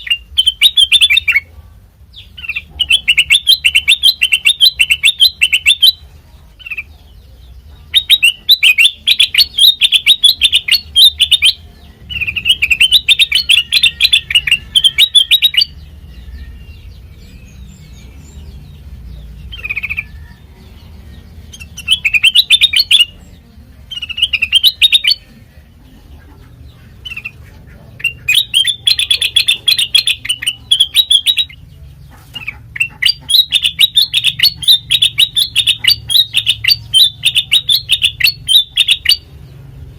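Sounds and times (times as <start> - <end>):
bulbul chirping: 0.0 - 1.5, 2.1 - 39.4.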